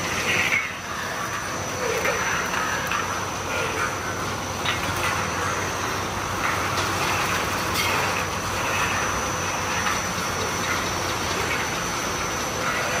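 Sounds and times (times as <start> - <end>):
steel strip metallic rolling rattle: 0.0 - 13.0.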